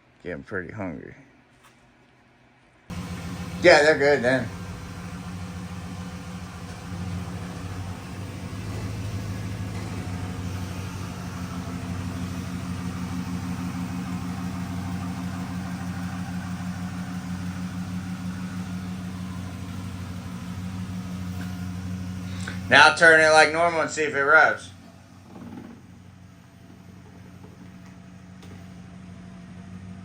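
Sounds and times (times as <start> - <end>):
car engine idling: 2.9 - 30.0.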